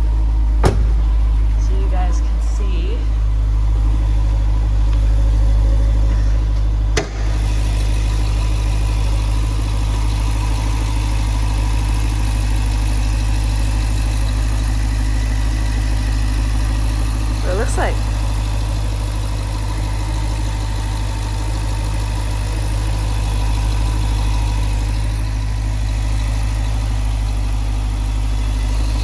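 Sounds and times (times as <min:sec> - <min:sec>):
vee eight engine idling: 0:00.0 - 0:29.0.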